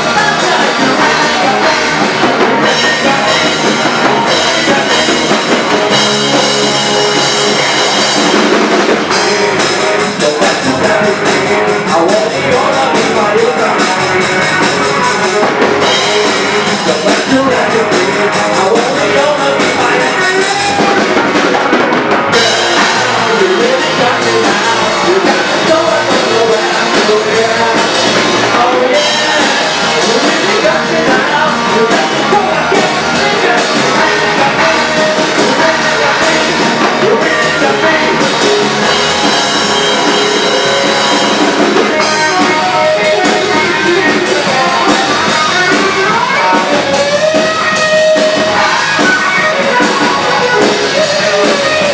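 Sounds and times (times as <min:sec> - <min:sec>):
bass guitar: 0:00.0 - 0:51.9
drum kit with cymbals: 0:00.0 - 0:51.9
electric guitar: 0:00.0 - 0:51.9
rock band playing live: 0:00.0 - 0:51.9.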